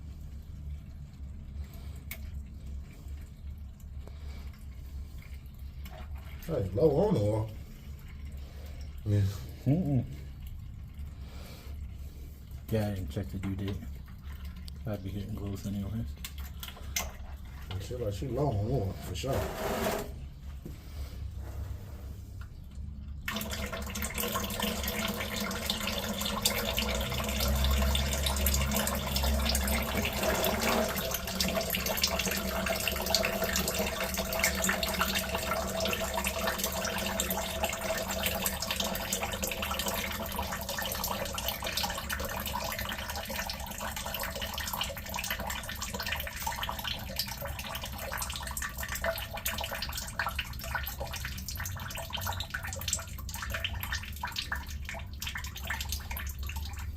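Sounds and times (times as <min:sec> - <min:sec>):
oil pouring and splashing: 0:00.0 - 0:56.9.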